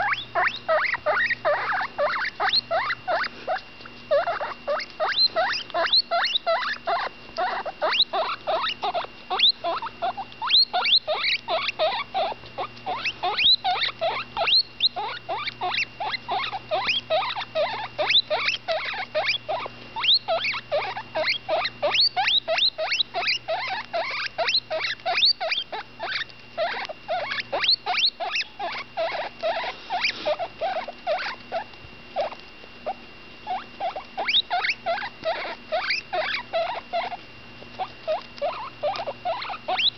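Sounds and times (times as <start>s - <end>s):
guinea pig squeaking: 0.0s - 39.9s.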